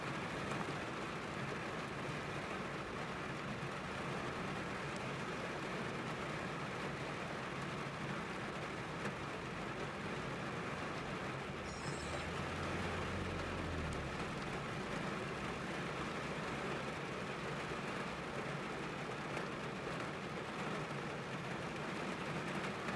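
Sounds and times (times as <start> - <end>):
rain on car roof: 0.0 - 22.9.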